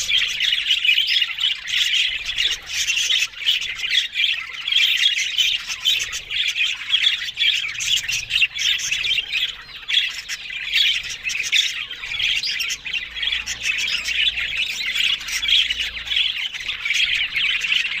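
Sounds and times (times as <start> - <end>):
budgerigars chattering and chirping: 0.0 - 18.0.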